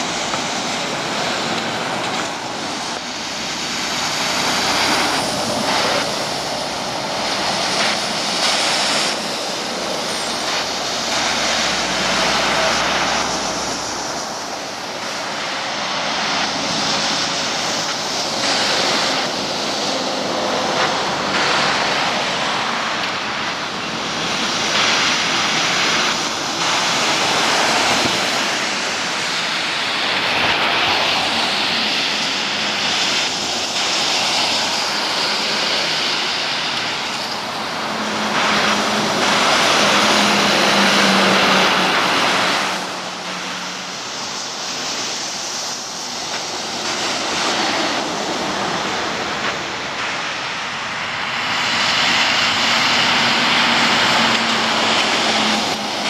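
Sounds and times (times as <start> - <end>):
tyres hissing on wet road: 0.0 - 56.0.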